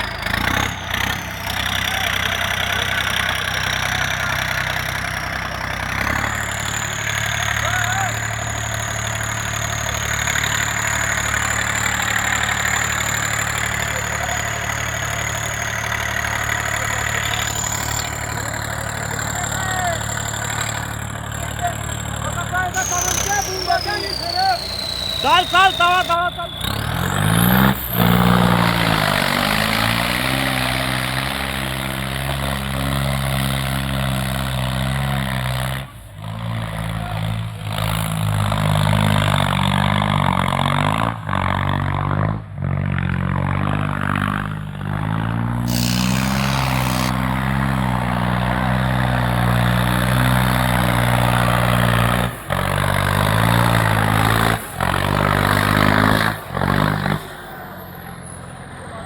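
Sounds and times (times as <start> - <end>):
tractor diesel engine running hard: 0.0 - 59.0.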